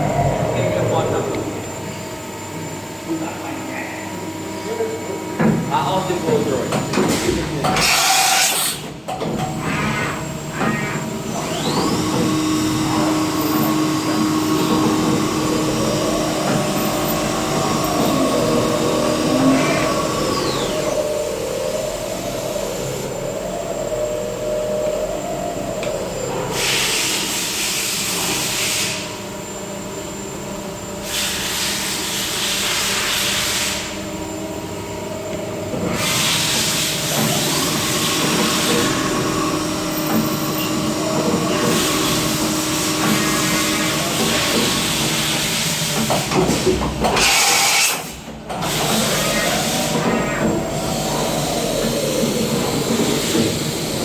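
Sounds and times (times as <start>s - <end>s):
milling machine hum: 0.0s - 54.0s.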